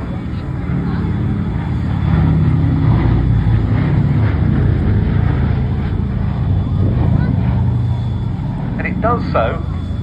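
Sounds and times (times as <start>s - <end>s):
aircraft piston engines droning: 0.0s - 10.0s.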